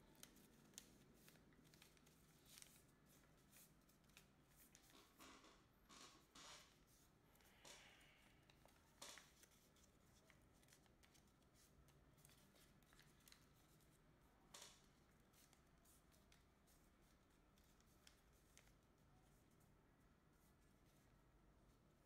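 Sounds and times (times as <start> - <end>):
paper rustling and crackling: 0.0 - 5.4, 6.2 - 19.6.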